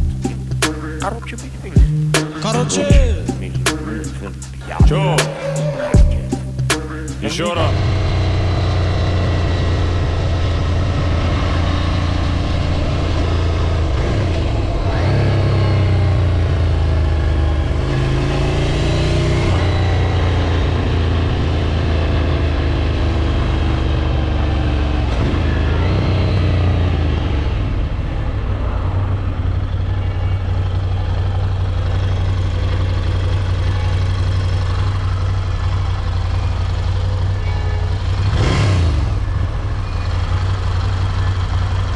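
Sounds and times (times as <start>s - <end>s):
motorcycle engine while riding: 7.7s - 41.9s.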